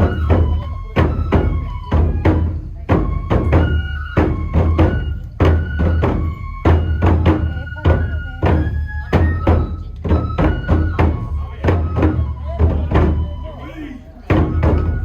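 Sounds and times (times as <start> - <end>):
drum beating steadily: 0.0 - 15.0.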